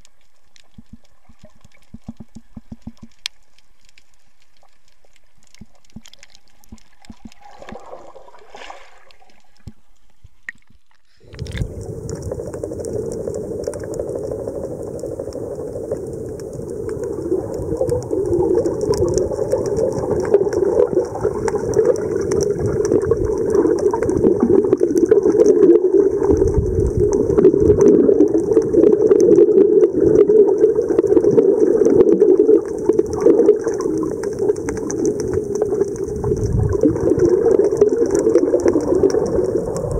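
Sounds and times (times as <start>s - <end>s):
muffled underwater rushing water: 0.0s - 39.9s.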